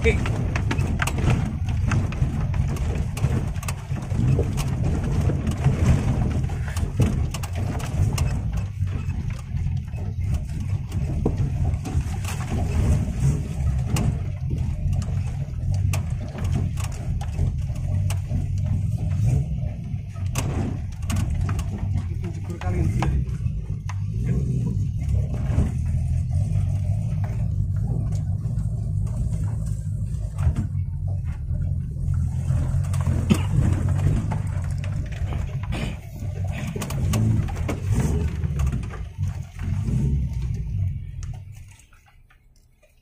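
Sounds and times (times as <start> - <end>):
off-road vehicle engine rumbling: 0.0 - 43.0.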